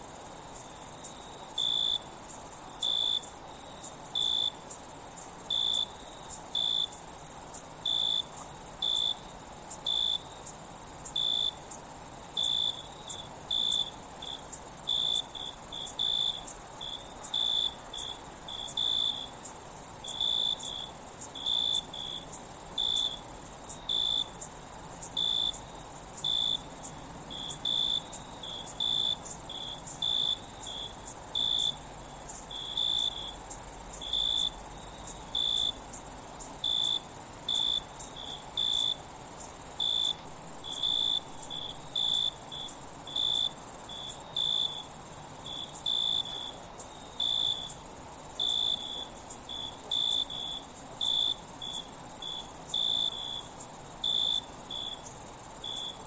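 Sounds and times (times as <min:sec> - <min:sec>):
crickets chirping: 0:00.0 - 0:56.0
high-pitched insect trill: 0:00.0 - 0:56.0.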